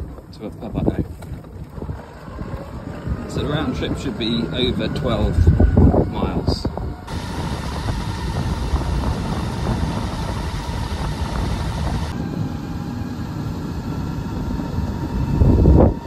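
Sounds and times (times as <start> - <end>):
tyres rumbling on tarmac: 0.0 - 16.0
electric motor whining: 1.8 - 16.0.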